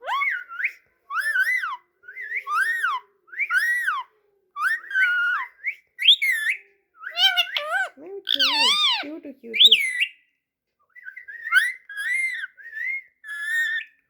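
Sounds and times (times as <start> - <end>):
parrot whistling: 0.0 - 9.0, 9.6 - 10.2, 11.0 - 13.9.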